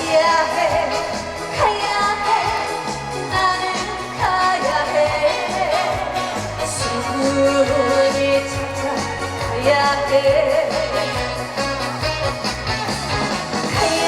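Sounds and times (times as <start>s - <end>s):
pop song over sound system: 0.0s - 14.0s.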